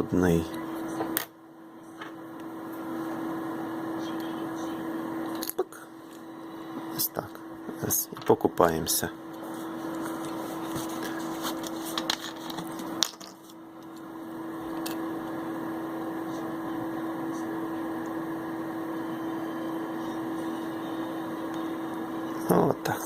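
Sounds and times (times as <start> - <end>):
ultrasonic cleaner hum and hiss: 0.0 - 23.0.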